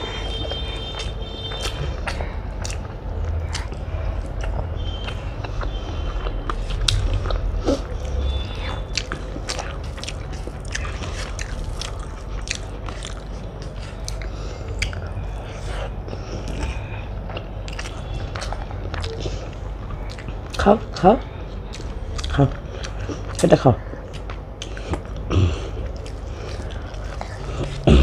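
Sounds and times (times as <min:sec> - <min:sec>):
chewing food: 0:00.0 - 0:28.0.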